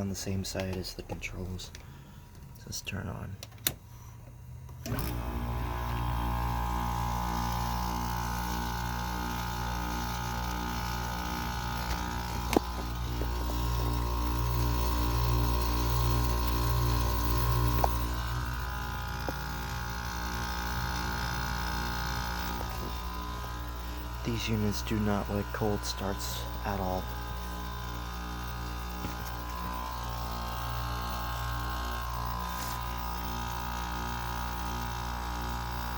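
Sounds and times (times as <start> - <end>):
air conditioner compressor humming: 0.0 - 35.9.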